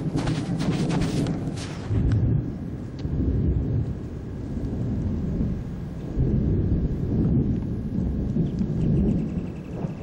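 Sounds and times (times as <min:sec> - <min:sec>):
rolling thunder: 0:00.0 - 0:10.0.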